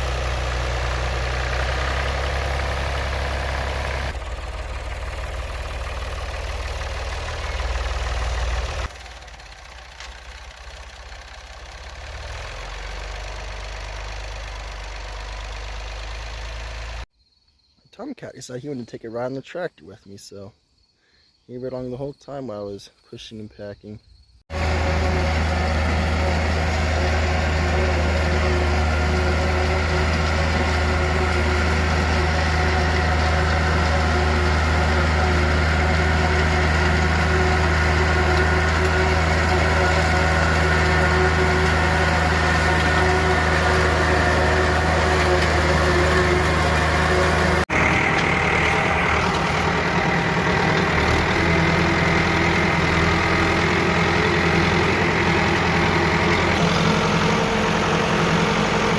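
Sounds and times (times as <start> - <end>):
tractor engine running: 0.0 - 17.1, 24.5 - 58.9.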